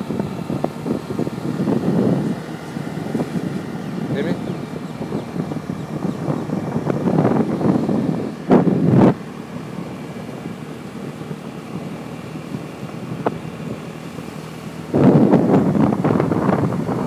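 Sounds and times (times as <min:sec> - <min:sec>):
motorbike riding noise: 0:00.0 - 0:17.0
wind buffeting microphone: 0:00.0 - 0:17.0.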